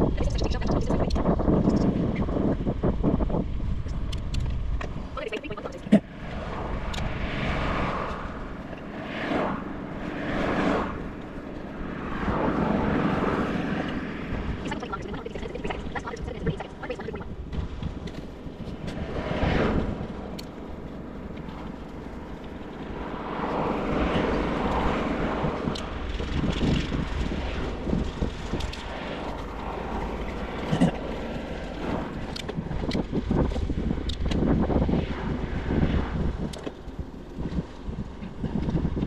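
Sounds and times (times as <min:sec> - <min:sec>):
bicycle tyre rumble: 0:00.0 - 0:05.2, 0:06.0 - 0:39.0
wind on microphone: 0:00.0 - 0:39.0.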